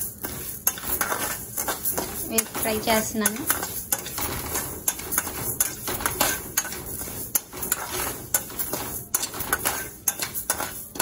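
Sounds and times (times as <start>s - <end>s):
spatula scraping a metal pan: 0.0s - 11.0s.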